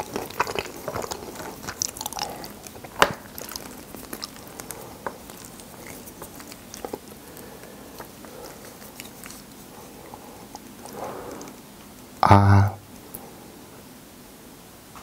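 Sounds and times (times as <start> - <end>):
soft chewing: 0.0 - 12.2.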